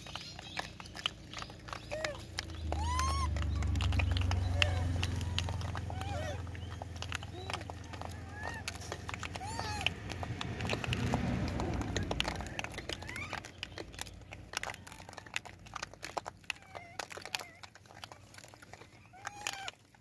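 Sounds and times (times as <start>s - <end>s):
crunching and rustling on gravel: 0.0s - 20.0s
monkeys squeaking: 0.0s - 20.0s.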